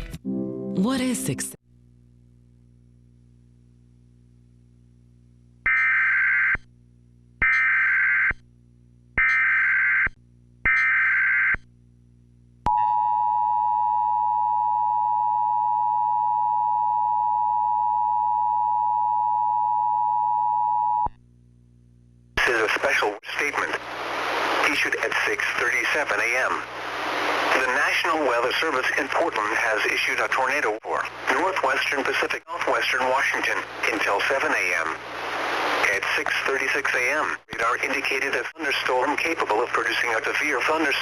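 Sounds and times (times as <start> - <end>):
faint low hum: 1.7 - 5.7, 11.6 - 41.0.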